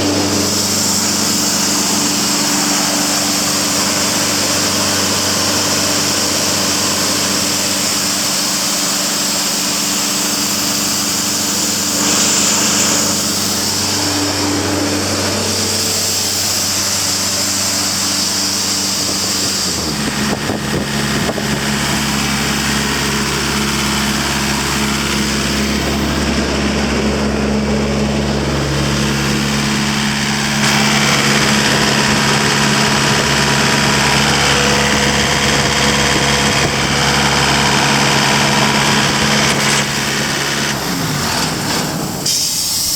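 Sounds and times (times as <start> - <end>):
strong hiss: 0.0 - 6.2, 7.1 - 42.9
air compressor engine running: 0.0 - 42.9.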